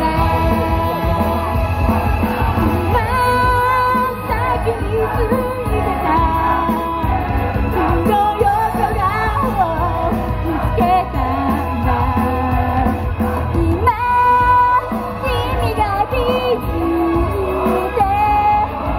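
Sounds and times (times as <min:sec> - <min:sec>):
amplified pop backing music: 0:00.0 - 0:18.9.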